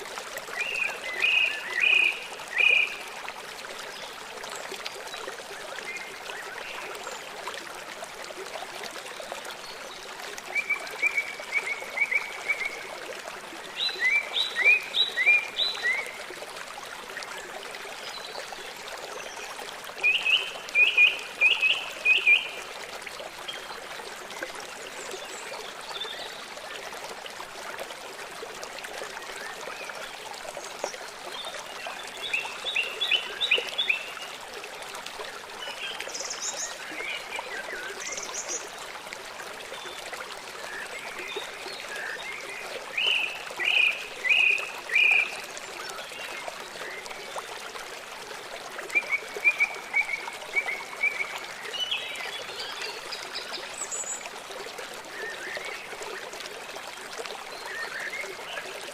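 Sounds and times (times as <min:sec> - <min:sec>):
running water rushing: 0:00.0 - 0:58.9.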